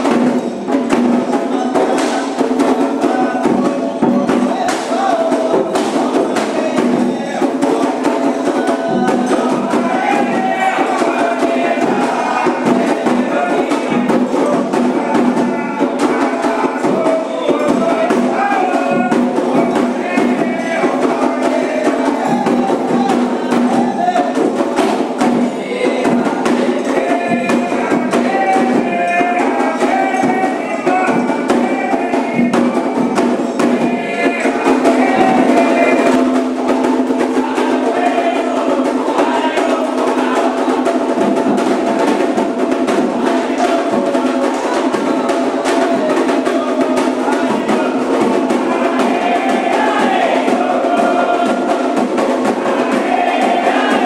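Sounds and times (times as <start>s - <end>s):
hand drums playing fast rhythm: 0.0s - 54.0s
voices singing a chant: 0.0s - 54.0s.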